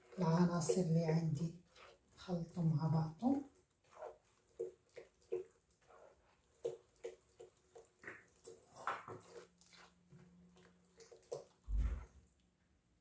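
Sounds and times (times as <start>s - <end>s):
hand squelching wet mixture: 0.0s - 12.6s.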